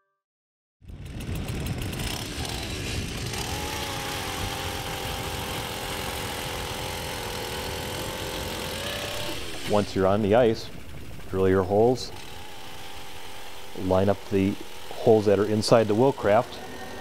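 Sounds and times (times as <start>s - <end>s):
ice auger engine revving: 0.8s - 17.0s.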